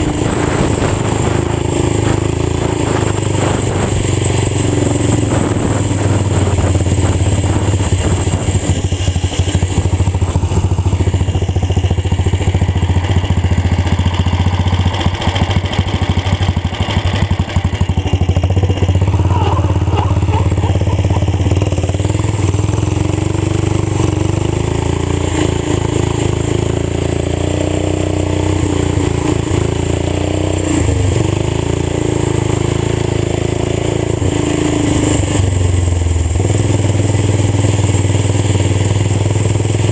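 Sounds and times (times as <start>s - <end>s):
tractor engine running rough: 0.0s - 39.9s.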